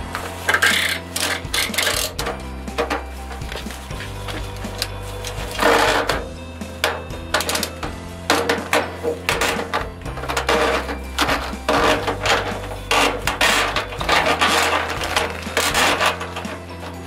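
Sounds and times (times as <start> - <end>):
plastic hose scraping against machine: 0.0 - 6.3, 8.6 - 17.0.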